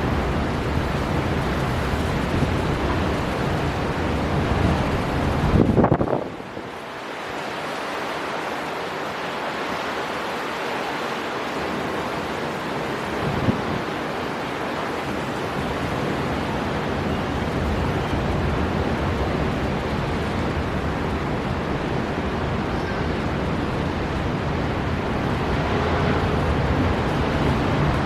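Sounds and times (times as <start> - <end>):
sea surf breaking: 0.0 - 28.0
storm wind blowing: 0.0 - 28.0.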